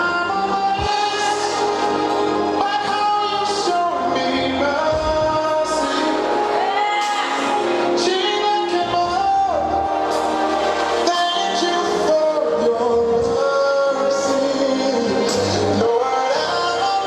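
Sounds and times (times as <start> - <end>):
song with band and voices: 0.0 - 17.0.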